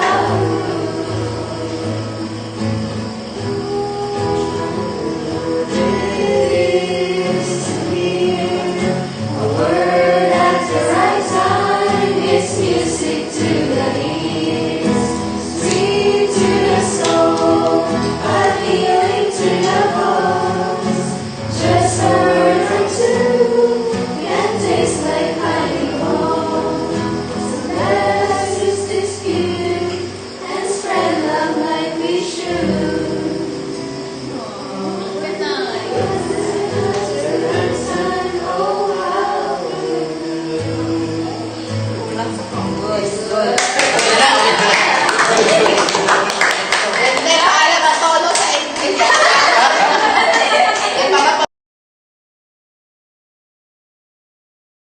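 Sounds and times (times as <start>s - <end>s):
choir singing gospel song: 0.0s - 51.5s.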